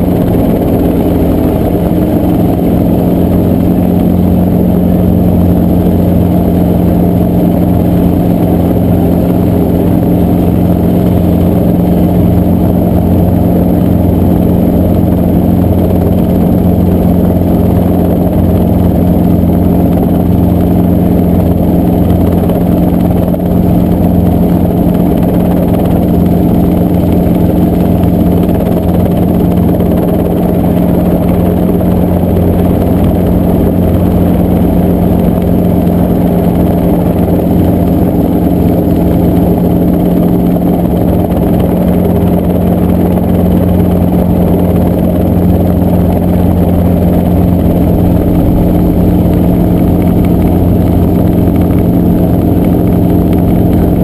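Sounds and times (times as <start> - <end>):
helicopter engine and rotor hum: 0.0 - 54.0.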